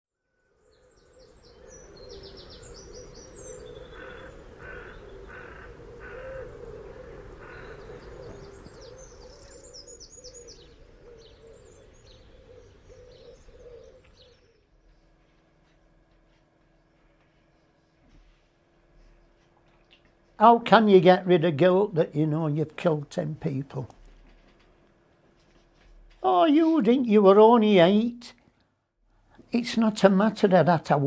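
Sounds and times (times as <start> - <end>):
birds chirping and singing: 0.7 - 18.0, 18.6 - 24.2, 25.4 - 28.2.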